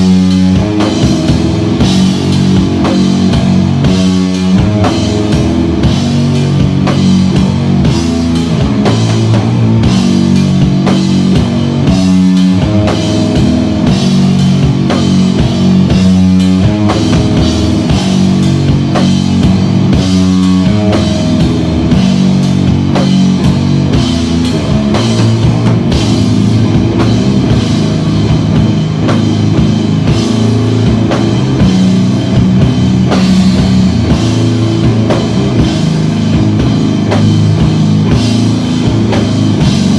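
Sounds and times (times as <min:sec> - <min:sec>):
drum kit beat: 0:00.0 - 0:39.9
guitar sustained low notes: 0:00.0 - 0:39.9.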